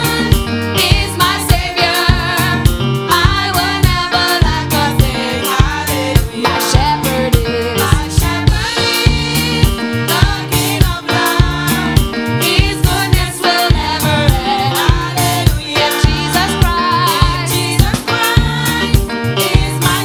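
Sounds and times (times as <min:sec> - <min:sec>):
bass: 0:00.0 - 0:20.0
woman singing into microphone: 0:00.0 - 0:20.0.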